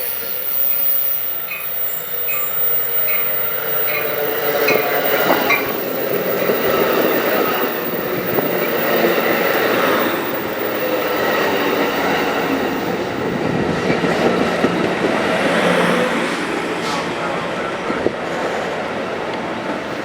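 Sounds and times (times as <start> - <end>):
train wheels running on rails: 0.0 - 20.0.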